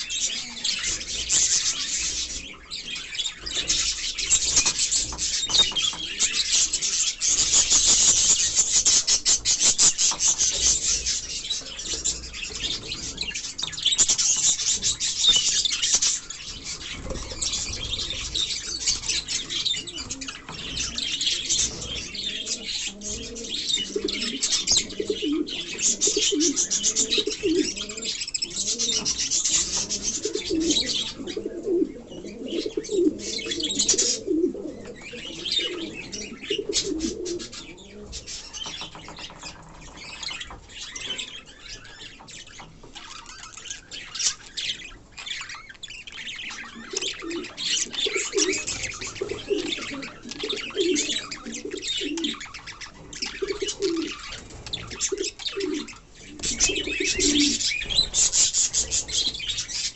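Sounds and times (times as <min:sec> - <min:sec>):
doves cooing: 0:00.0 - 0:59.9
small birds chirping: 0:00.0 - 0:59.9.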